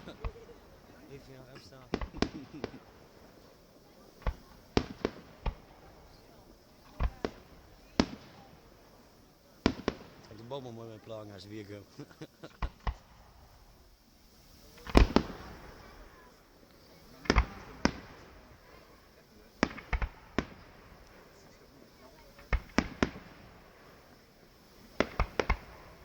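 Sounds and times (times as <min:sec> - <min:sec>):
fireworks banging: 0:00.0 - 0:26.0
fireworks crackle: 0:00.0 - 0:26.0.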